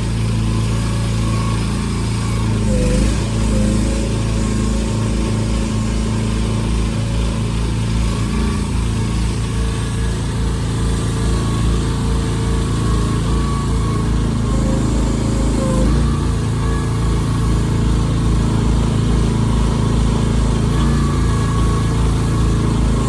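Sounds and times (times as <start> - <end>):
mini excavator engine running: 0.0 - 23.0.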